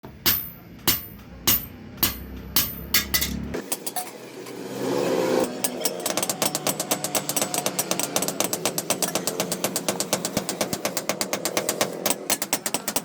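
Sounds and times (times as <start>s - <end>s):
hammer striking metal on anvil: 0.0s - 4.2s, 5.4s - 13.0s.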